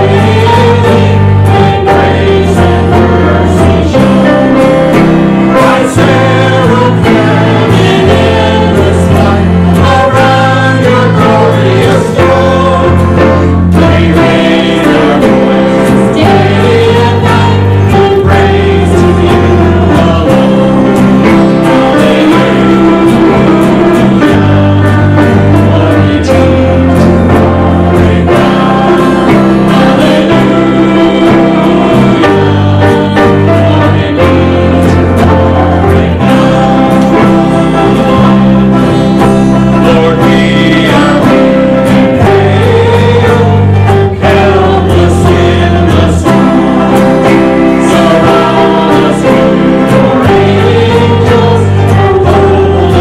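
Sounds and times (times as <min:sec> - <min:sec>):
congregation singing a hymn: 0:00.0 - 0:53.0
instrumental accompaniment: 0:00.0 - 0:53.0.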